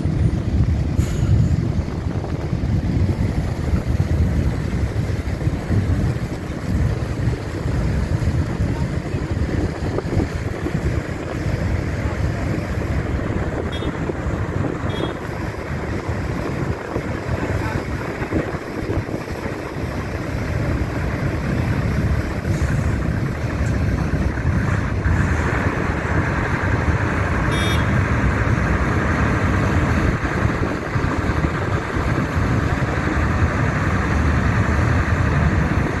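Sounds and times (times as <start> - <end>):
ferry engine running: 0.0 - 36.0
lorry diesel engine rumble: 0.0 - 36.0
wind on microphone: 0.0 - 36.0.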